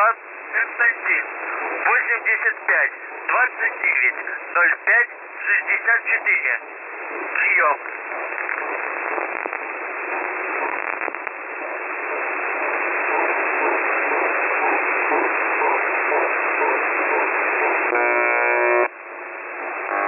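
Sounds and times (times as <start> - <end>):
harsh radio buzz tone: 0.0 - 20.0
shortwave radio static hiss: 0.0 - 20.0.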